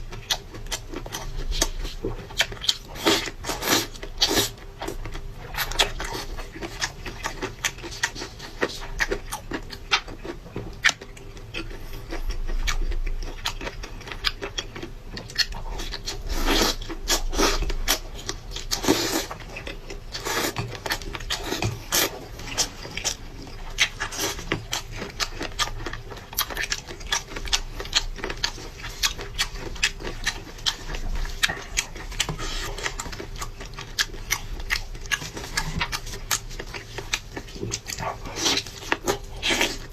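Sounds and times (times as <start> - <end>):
person chewing and smacking: 0.0 - 39.9.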